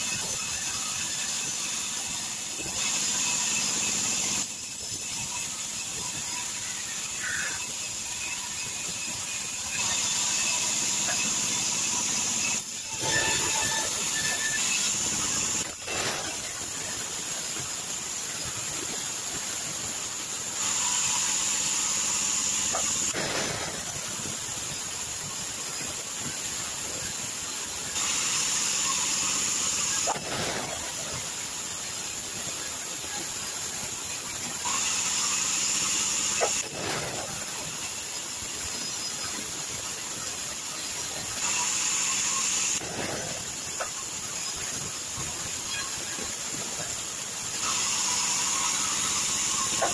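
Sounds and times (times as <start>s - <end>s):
band saw cutting logs: 0.0s - 49.9s.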